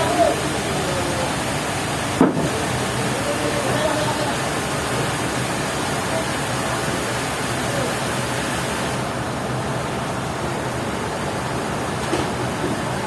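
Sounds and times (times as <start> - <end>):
sawmill machinery noise: 0.0 - 13.0.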